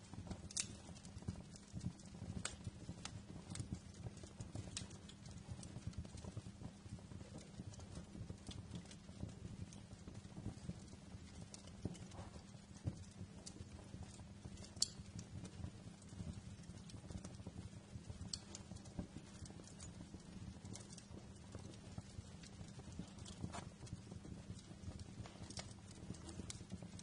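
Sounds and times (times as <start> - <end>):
fire crackling and popping: 0.0 - 27.0
low rumble of flames: 0.0 - 27.0.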